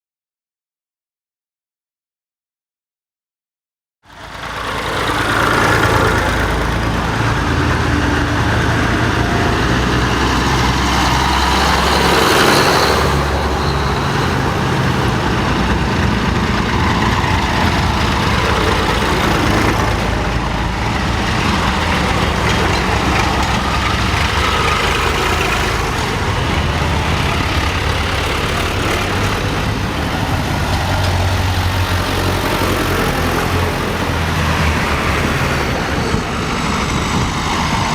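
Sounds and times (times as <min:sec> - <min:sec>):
diesel tractor engines running: 0:04.1 - 0:37.9.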